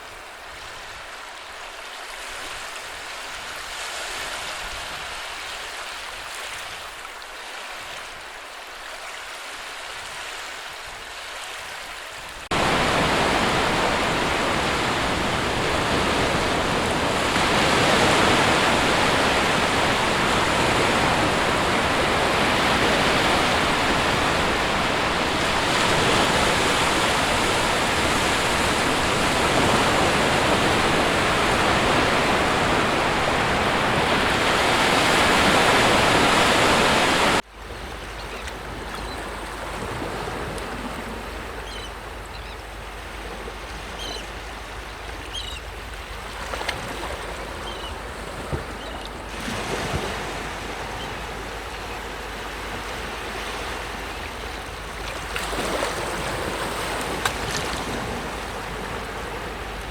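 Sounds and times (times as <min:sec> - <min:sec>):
sea surf washing: 0:00.0 - 0:59.9.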